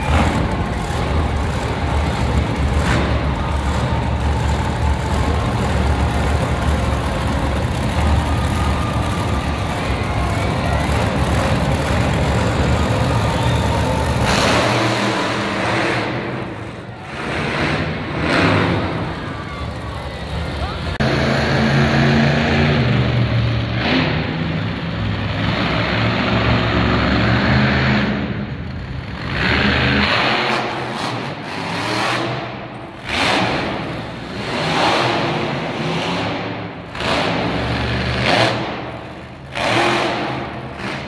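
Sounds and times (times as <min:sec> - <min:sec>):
truck engine rumbling: 0:00.0 - 0:41.0.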